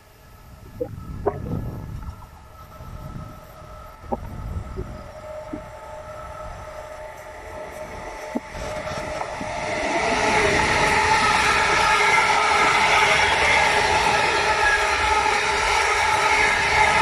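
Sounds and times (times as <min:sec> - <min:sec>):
freight train rumbling and whining: 0:00.0 - 0:17.0.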